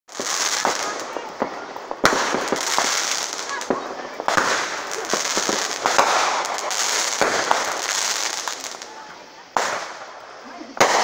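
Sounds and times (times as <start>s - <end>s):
fireworks crackling pops: 0.1s - 11.0s
sparks hissing: 0.1s - 11.0s.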